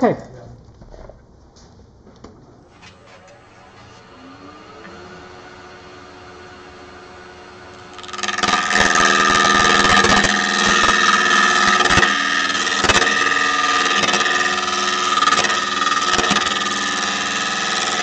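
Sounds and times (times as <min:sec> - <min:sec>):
gouge cutting wood on a lathe: 0:02.7 - 0:18.0.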